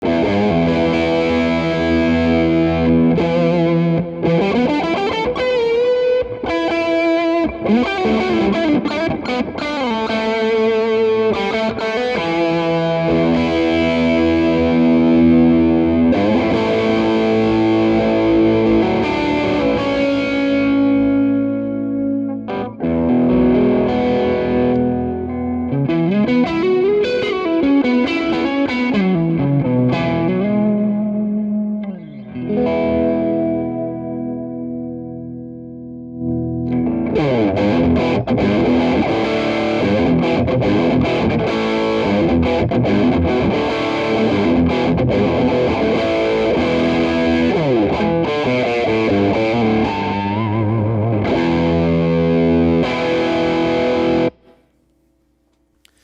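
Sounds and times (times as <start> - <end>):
distorted electric guitar: 0.0 - 54.7.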